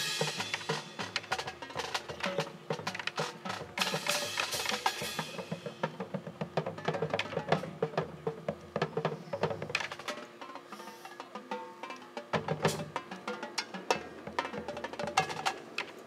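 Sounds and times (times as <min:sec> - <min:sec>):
snare and bass drums: 0:00.0 - 0:10.9, 0:11.5 - 0:15.7
pitched percussion: 0:00.0 - 0:15.9.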